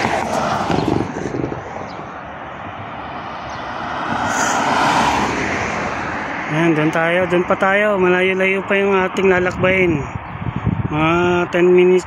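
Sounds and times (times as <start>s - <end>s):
car passing on highway: 0.0s - 10.9s.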